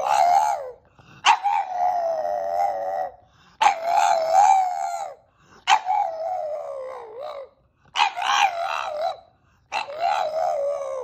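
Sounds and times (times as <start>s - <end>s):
dog howling: 0.0s - 11.0s.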